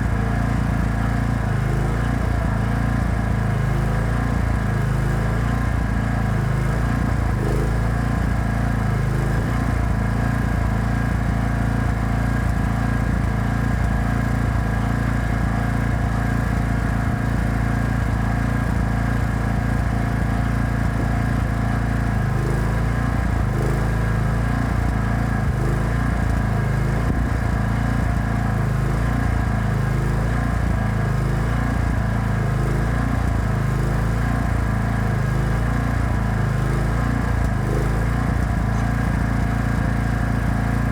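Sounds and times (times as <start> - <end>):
generator petrol engine running: 0.0 - 40.9.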